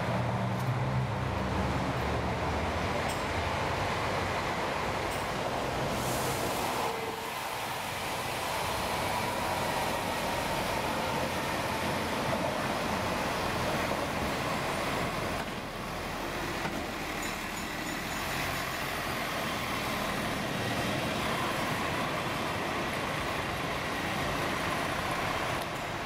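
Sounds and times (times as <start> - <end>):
bus driving past: 0.0 - 26.0
street traffic noise: 0.0 - 26.0.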